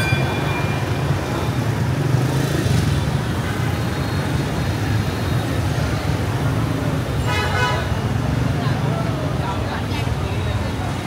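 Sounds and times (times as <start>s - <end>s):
street traffic hum: 0.0s - 11.0s.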